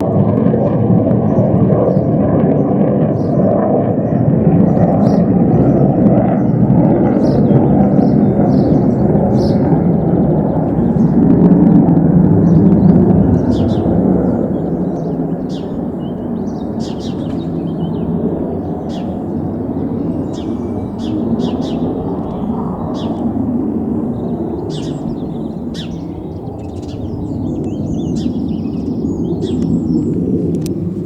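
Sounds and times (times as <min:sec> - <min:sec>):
deep jet engine roar: 0:00.0 - 0:31.0
small birds chirping: 0:01.2 - 0:30.9.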